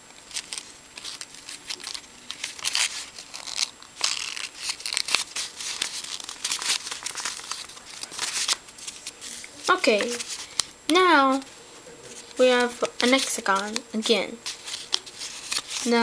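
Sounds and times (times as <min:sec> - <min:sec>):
paper rustling and crinkling: 0:00.2 - 0:16.0.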